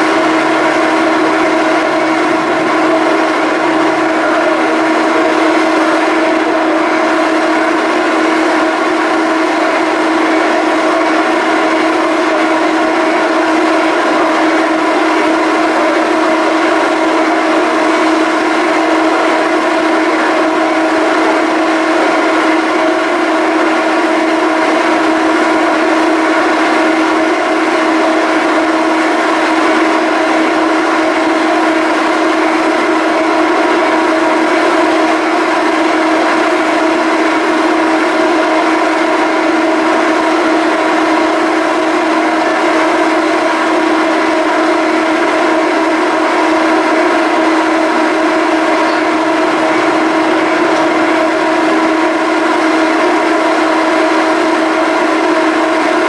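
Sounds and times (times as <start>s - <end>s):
ferry machinery hum: 0.0s - 56.0s.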